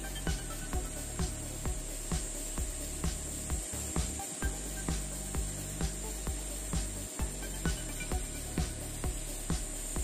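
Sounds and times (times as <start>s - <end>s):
music with electronic beat: 0.0s - 10.0s.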